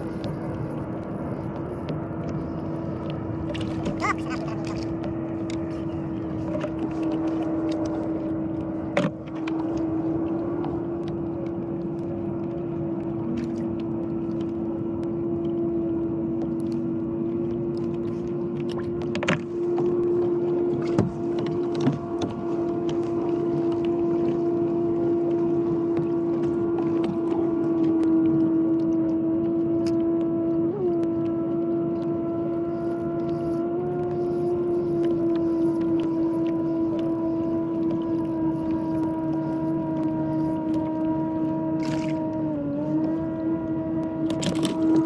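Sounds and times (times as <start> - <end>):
motor hum: 0.0 - 45.0.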